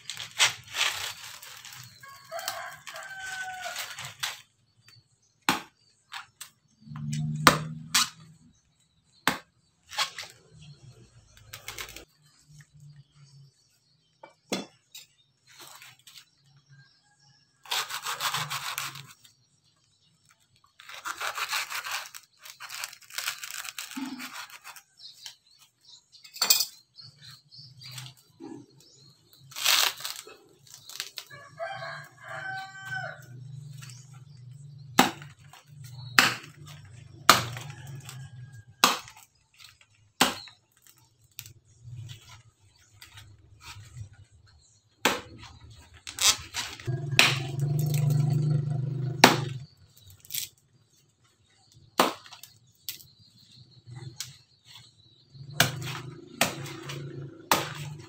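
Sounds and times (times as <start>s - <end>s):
tearing and scraping coconut fibre: 0.0s - 8.6s, 9.2s - 13.0s, 17.6s - 26.0s, 27.0s - 50.9s, 51.6s - 58.0s.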